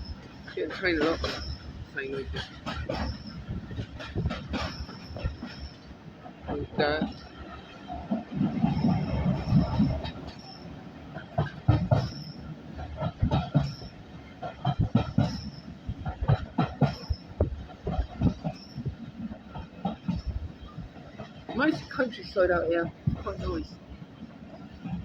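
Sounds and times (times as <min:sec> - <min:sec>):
steady train rumble: 0:00.0 - 0:25.0.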